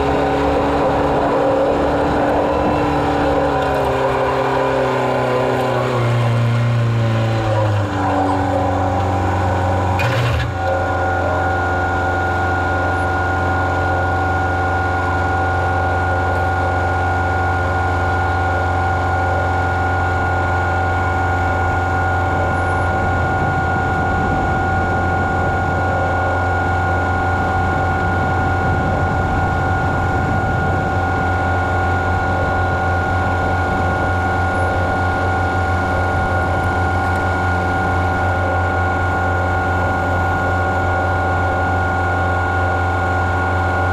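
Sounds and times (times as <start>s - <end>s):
farm machinery engine running: 0.0s - 43.9s.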